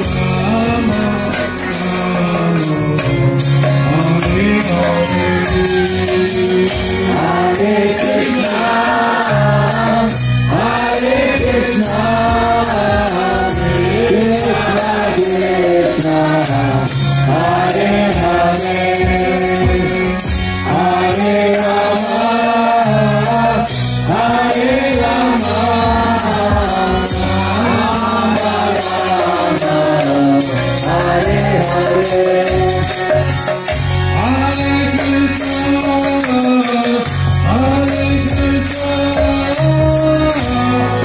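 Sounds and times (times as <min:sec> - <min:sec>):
jingling percussion: 0:00.0 - 0:41.0.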